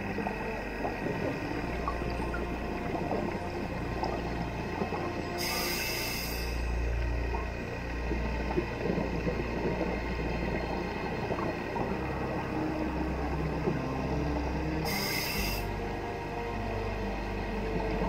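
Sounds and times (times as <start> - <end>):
distant motorboat engines droning: 0.0 - 18.0
regulator bubbles gurgling: 0.0 - 18.0.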